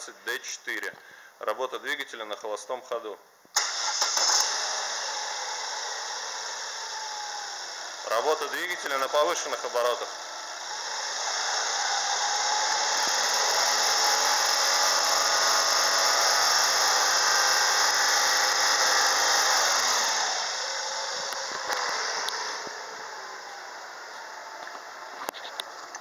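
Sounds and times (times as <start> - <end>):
car engine revving: 3.6 - 26.0.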